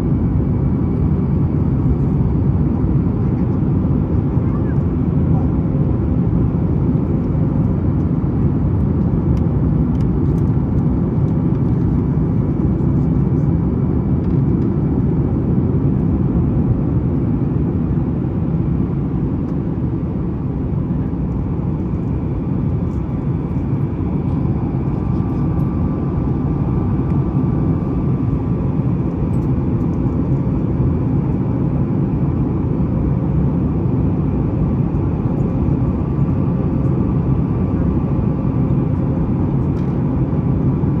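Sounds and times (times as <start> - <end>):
airplane cabin engine rumble: 0.0 - 41.0.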